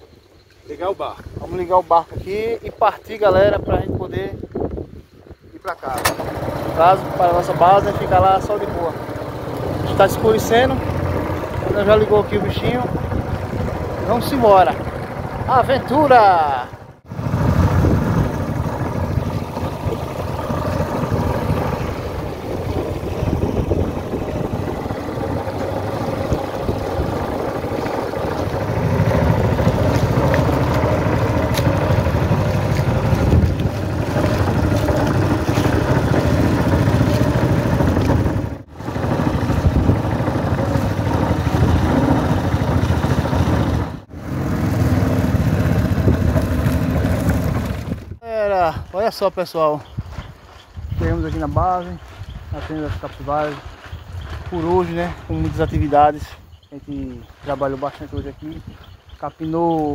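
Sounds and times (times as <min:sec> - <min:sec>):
outboard motor running: 0:05.7 - 0:59.9.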